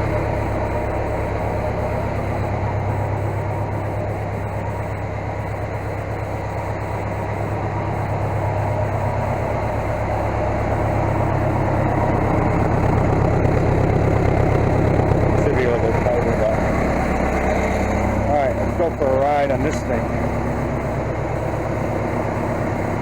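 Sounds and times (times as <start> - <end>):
skid steer engine running: 0.0 - 23.0.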